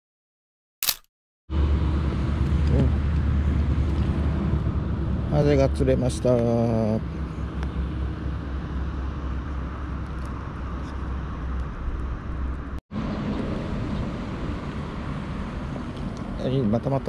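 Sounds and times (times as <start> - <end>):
outdoor background rumble and hiss: 1.5 - 17.0.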